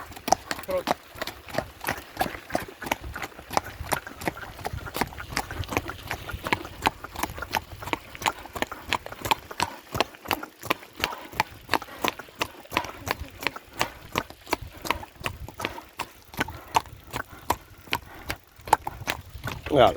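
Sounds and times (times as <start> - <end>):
horse hooves trotting: 0.0 - 19.9.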